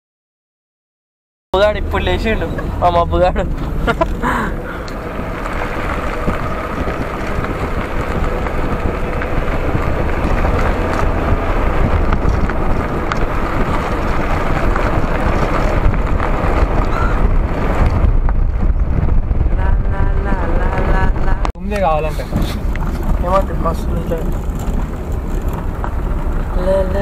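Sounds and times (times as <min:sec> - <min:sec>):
car driving low rumble: 0:01.6 - 0:27.0
wind rushing over microphone: 0:01.6 - 0:27.0.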